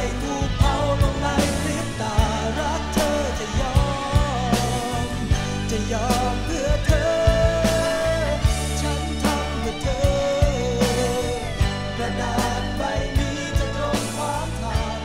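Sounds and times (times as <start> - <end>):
man singing rock song: 0.0 - 15.0
rock band playing: 0.0 - 15.0.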